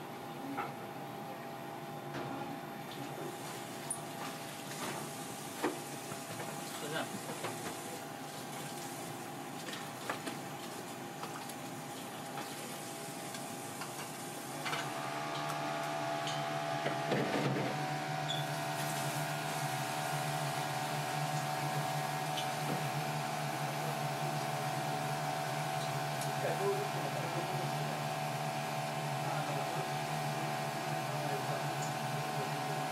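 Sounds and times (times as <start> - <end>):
steady mechanical hum: 0.0 - 32.9.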